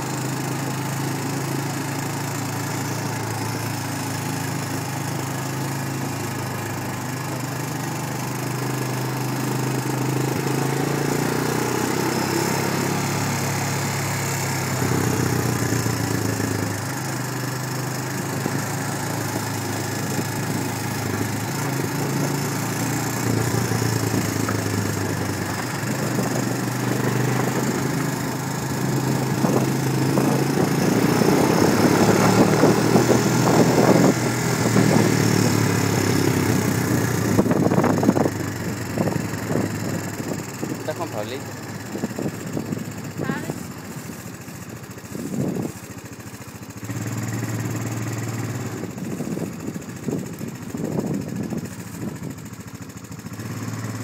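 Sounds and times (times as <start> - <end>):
car engine running: 0.0 - 54.0
road and wind noise: 0.0 - 54.0.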